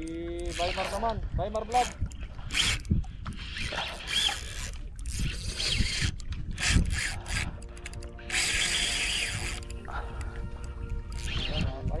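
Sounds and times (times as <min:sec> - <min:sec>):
fishing reel rubbing and knocking: 0:00.4 - 0:09.7, 0:11.1 - 0:12.0.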